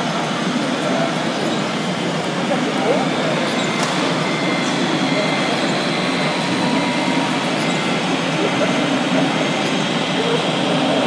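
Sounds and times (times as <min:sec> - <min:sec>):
hall rumble and hiss: 0:00.0 - 0:11.0
people talking: 0:00.0 - 0:11.0.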